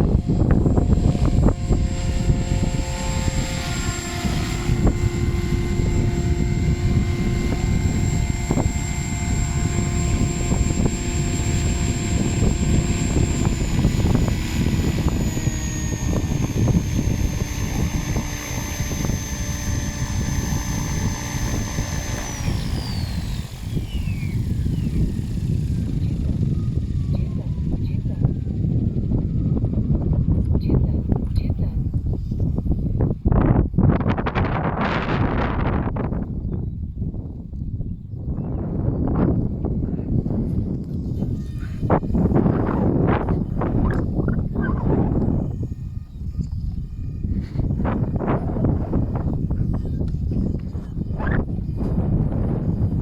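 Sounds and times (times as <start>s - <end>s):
rc helicopter motor whine: 0.0s - 53.0s
wind rumble on microphone: 0.0s - 53.0s.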